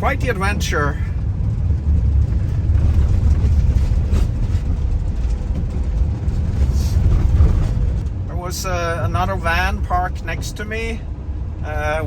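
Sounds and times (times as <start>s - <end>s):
van engine rumbling: 0.0s - 12.0s.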